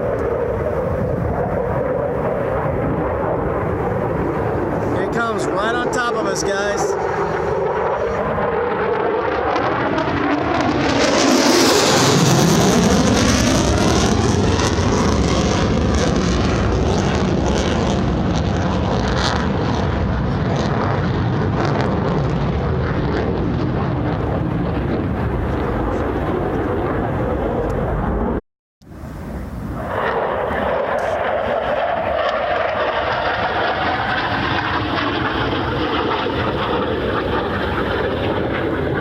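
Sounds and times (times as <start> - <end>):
fighter jet roar passing low: 0.0 - 39.0.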